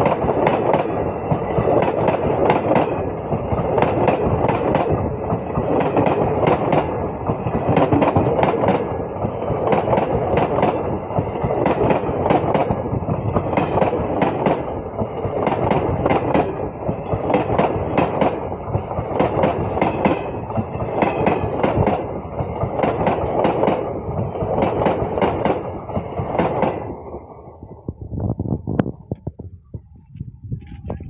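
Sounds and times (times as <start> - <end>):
train rumbling past: 0.0 - 27.9.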